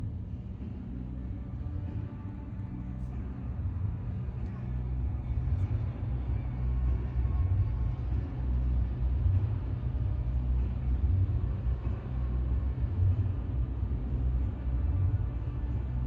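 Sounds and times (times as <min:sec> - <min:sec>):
deep bass of amplified music: 0:00.0 - 0:16.0.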